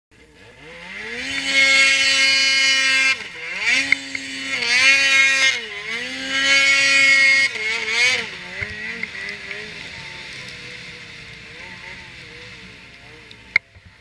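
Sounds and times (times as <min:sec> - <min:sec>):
snowmobile engine revving: 0:00.2 - 0:14.0.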